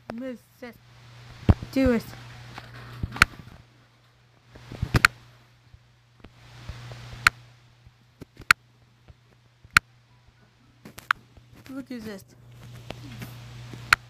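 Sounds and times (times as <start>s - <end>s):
soft hisses: 0.0s - 8.5s, 10.2s - 14.0s
faint low hum: 0.0s - 14.0s.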